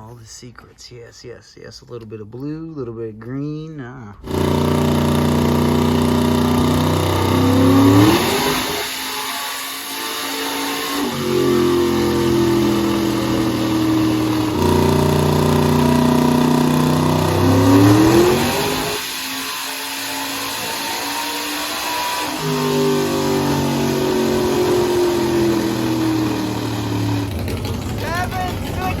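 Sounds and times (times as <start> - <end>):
engine revving on a dyno: 4.2 - 29.0.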